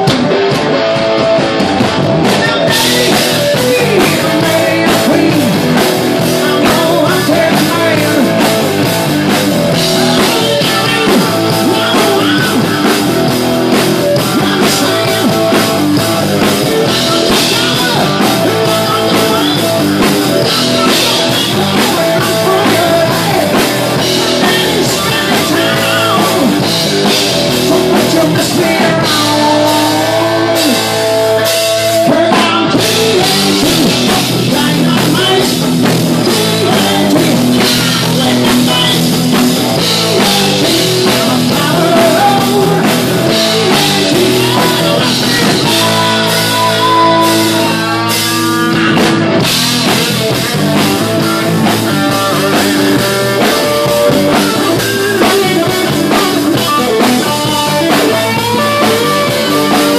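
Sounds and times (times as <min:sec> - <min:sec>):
electric guitar: 0:00.0 - 0:59.9
rock band playing: 0:00.0 - 0:59.9.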